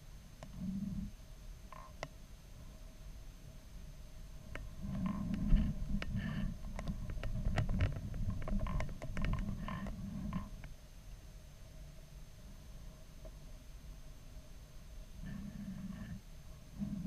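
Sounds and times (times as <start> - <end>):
faint electronic whine: 0.0 - 17.0.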